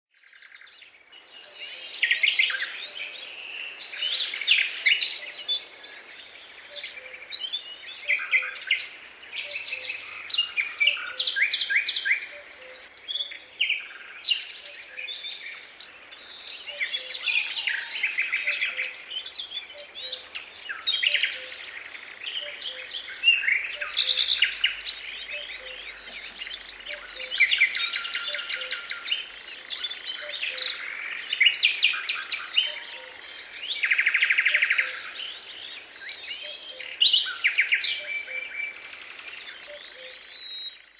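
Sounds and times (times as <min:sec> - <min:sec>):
songbirds chirping and trilling: 0:00.1 - 0:40.9.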